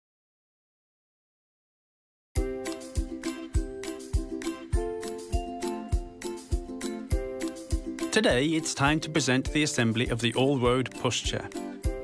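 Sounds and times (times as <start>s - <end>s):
background music with steady beat: 2.4s - 12.0s.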